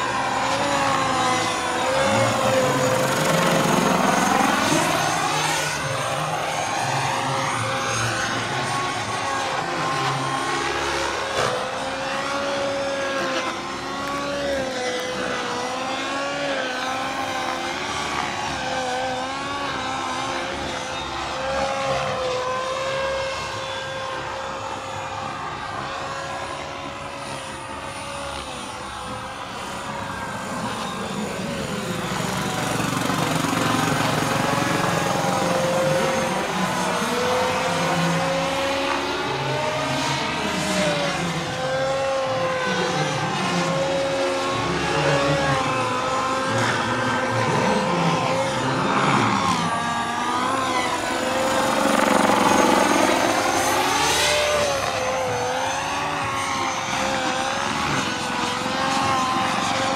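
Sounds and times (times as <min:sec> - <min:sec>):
model helicopter turbine whine: 0:00.0 - 0:59.9.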